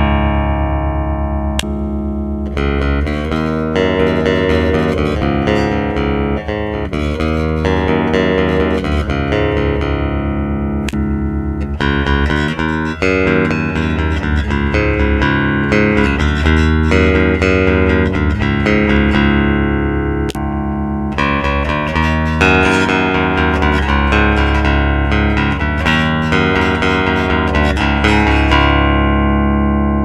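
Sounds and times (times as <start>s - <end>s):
bass line: 0.0s - 30.0s
plucked guitar: 0.0s - 30.0s.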